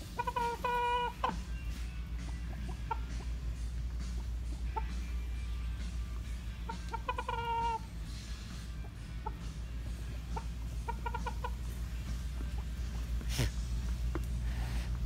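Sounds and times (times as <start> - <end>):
rooster clucking: 0.0 - 13.5.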